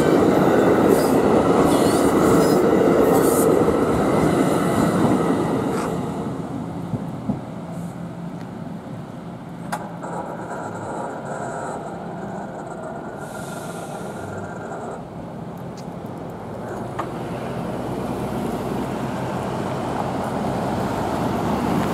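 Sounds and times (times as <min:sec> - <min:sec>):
train rail noise: 0:00.0 - 0:21.9.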